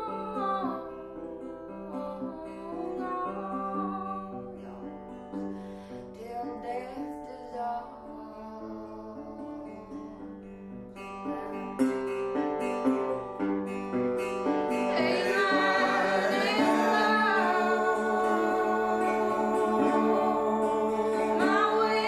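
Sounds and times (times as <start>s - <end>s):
person singing: 0.0s - 10.4s, 11.0s - 12.0s, 14.7s - 22.0s
acoustic guitar plucking: 0.0s - 22.0s.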